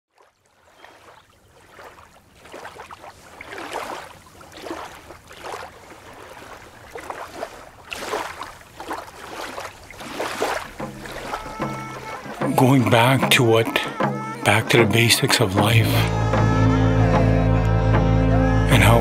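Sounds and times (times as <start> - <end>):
small waves lapping on shore: 0.1 - 15.9.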